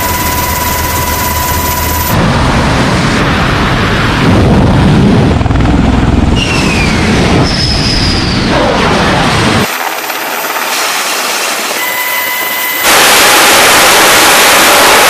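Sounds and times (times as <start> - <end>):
jet engines whining down: 0.0 - 15.0
jet landing: 0.0 - 15.0
tiltrotor aircraft hovering: 0.0 - 15.0.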